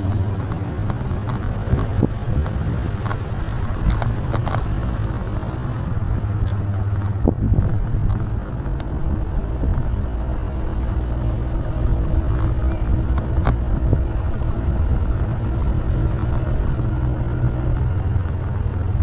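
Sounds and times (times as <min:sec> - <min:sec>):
vehicle engine and tyres rumbling: 0:00.0 - 0:19.0.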